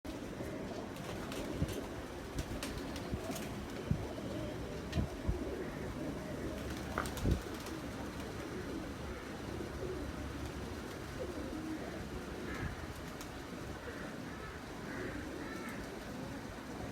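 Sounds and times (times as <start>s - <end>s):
pigeons cooing: 0.1s - 16.9s.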